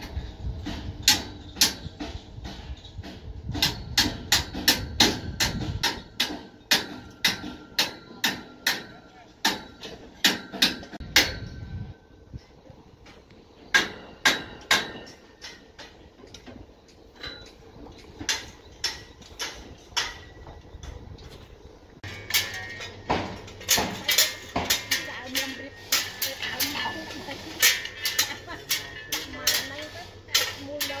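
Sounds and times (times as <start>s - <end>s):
metal pipes knocking and clanking: 0.0s - 31.0s.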